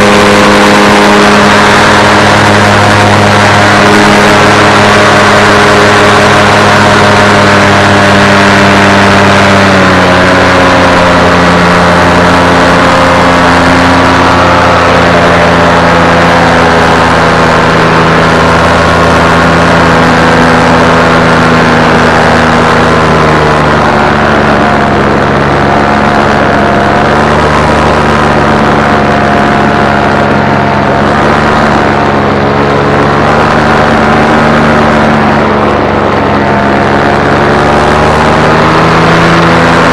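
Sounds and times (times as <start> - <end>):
aircraft propellers humming: 0.0 - 39.9.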